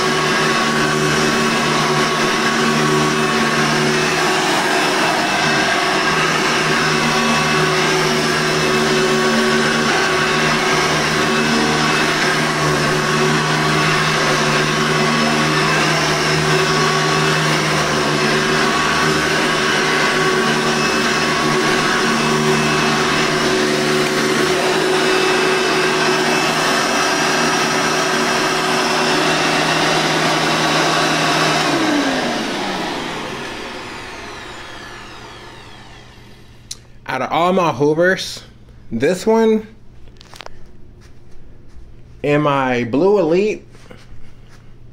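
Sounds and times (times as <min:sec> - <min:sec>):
vacuum cleaner motor whine: 0:00.0 - 0:38.0.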